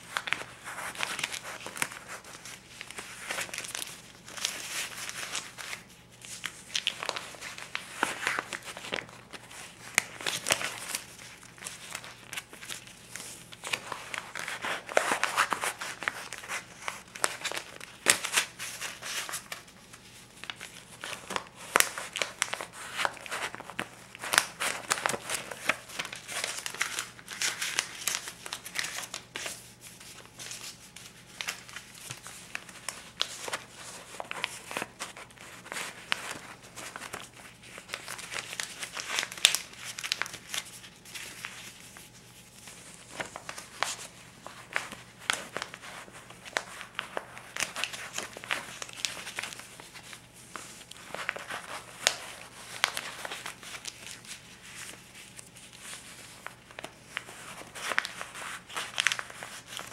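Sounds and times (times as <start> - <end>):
paper bills crinkling: 0.0 - 59.9.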